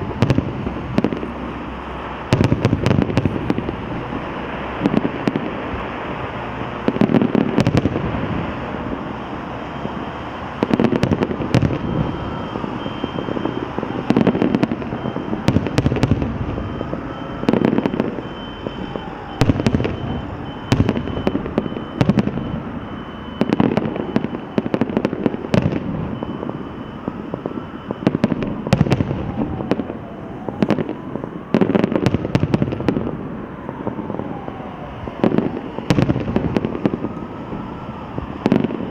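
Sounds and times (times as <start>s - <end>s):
fireworks bursting with sharp bangs: 0.0s - 38.9s
fireworks crackle and rumble: 0.0s - 38.9s
heavy fireworks booms: 0.0s - 38.9s.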